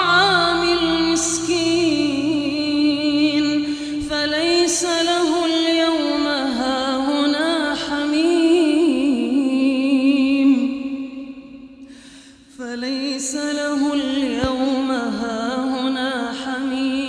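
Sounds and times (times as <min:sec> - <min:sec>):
person chanting recitation: 0:00.0 - 0:10.9, 0:12.6 - 0:17.0.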